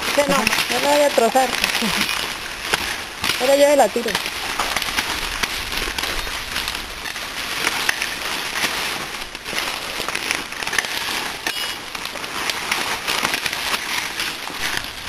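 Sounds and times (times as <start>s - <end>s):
rustling of leaf litter: 0.0s - 15.0s.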